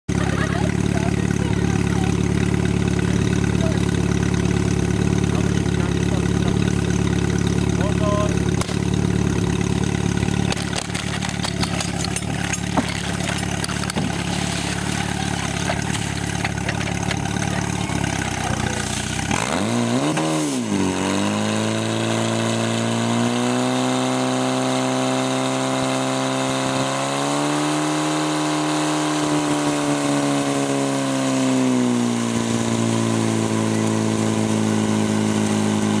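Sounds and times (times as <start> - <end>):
fire pump engine revving: 0.1 - 36.0.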